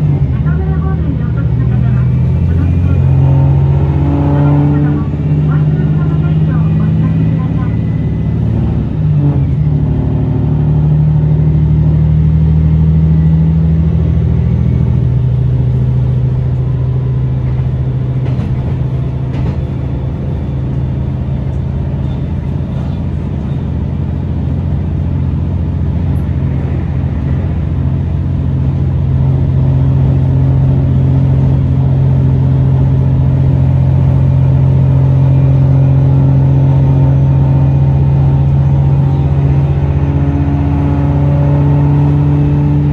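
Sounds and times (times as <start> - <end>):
train diesel engine droning: 0.0 - 42.9.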